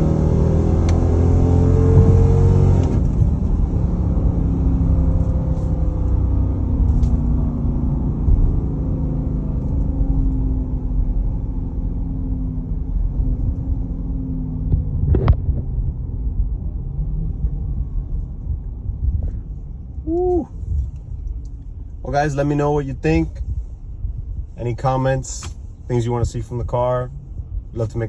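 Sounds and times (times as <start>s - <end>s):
deep car exhaust rumble: 0.0s - 28.0s.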